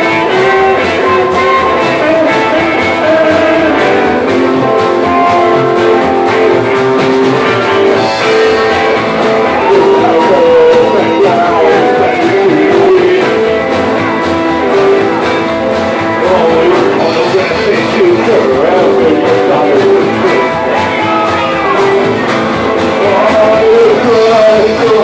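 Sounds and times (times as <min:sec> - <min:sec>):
man singing: 0:00.0 - 0:06.4, 0:07.8 - 0:25.0
rock and roll band playing: 0:00.0 - 0:25.0.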